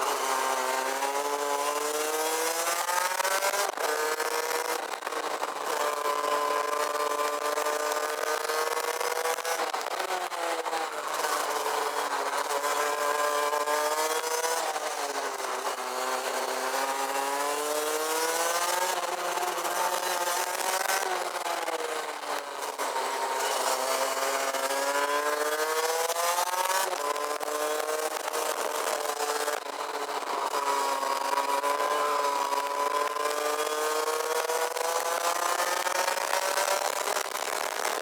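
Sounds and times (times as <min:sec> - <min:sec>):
kart engine revving: 0:00.0 - 0:38.0.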